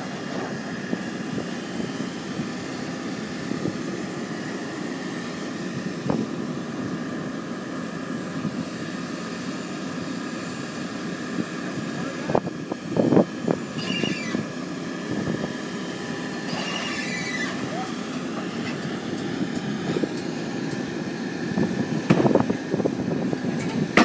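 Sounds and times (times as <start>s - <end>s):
pile-driving machinery whining: 0.0s - 24.0s.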